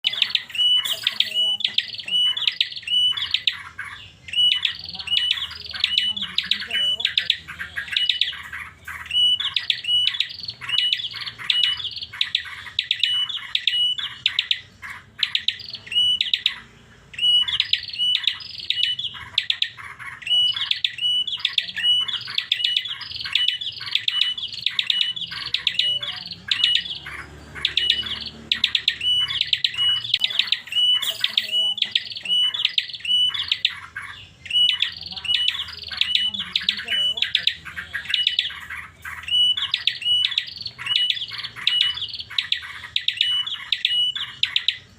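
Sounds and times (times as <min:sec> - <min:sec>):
bird singing high whistled notes: 0:00.0 - 0:44.9.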